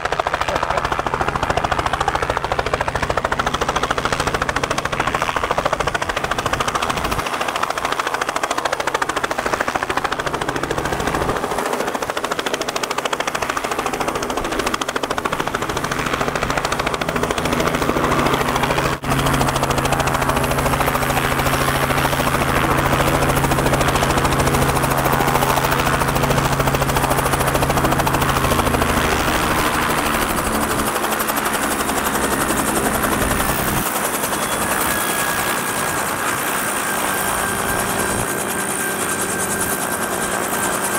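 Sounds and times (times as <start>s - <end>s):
helicopter rotor blades chopping: 0.0s - 40.9s.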